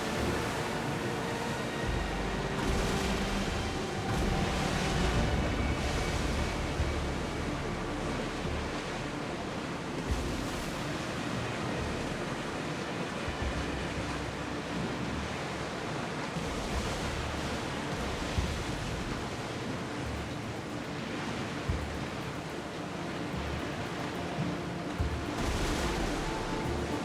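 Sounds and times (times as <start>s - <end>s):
sea waves rushing: 0.0s - 27.0s.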